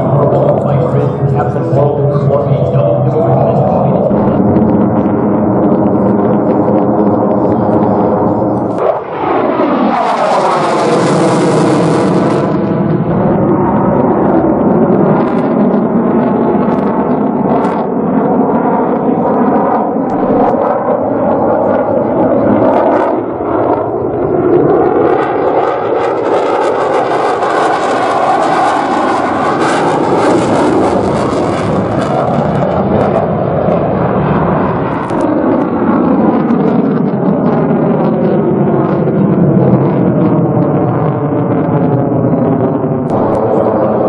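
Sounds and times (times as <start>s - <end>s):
fighter jet engine roar: 0.0s - 44.0s.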